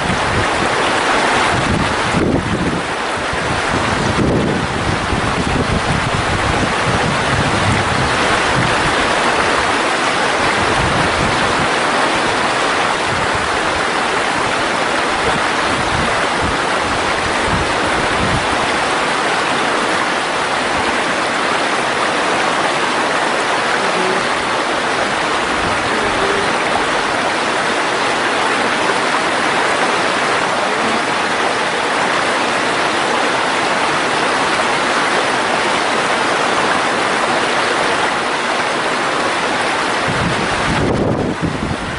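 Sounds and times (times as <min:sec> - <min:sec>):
stream rushing over rocks: 0:00.0 - 0:41.9.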